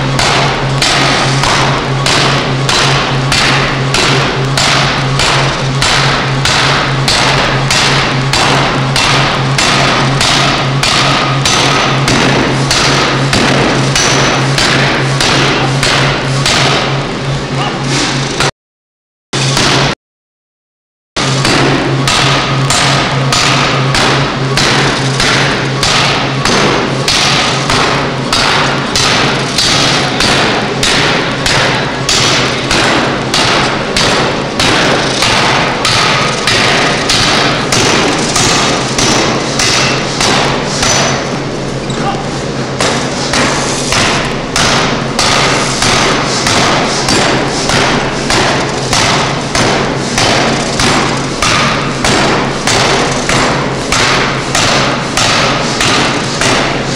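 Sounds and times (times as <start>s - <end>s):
forging hammer blows: 0.0s - 18.5s, 19.4s - 20.0s, 21.2s - 56.9s
machine drive hum: 0.0s - 18.5s, 21.2s - 56.9s.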